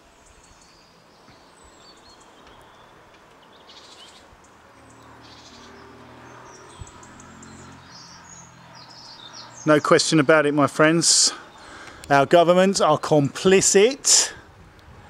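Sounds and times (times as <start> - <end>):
small birds chirping: 0.0 - 14.0
faint outdoor background noise: 0.0 - 15.0.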